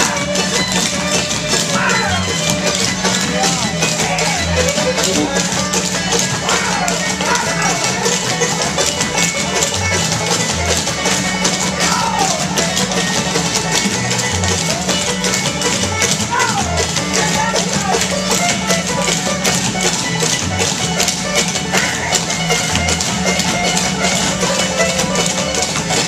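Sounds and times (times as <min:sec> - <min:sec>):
bluegrass band playing: 0:00.0 - 0:26.0
shoes tapping on floor: 0:00.0 - 0:26.0.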